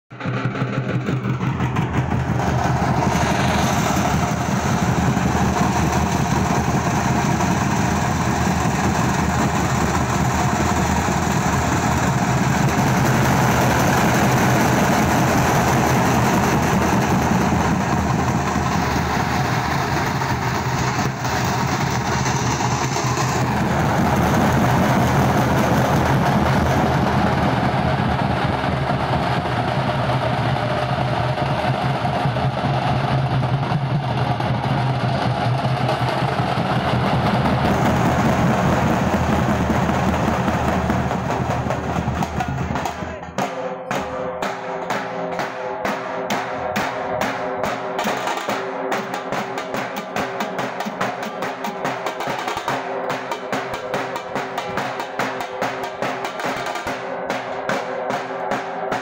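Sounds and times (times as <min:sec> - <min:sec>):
drum group beating drums: 0:00.1 - 0:59.0.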